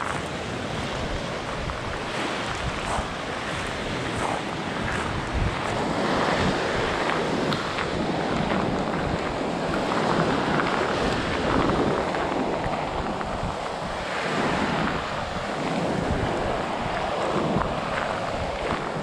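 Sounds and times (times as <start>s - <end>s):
waves washing onto sandy shore: 0.0s - 19.0s
wind buffeting microphone: 0.0s - 19.0s.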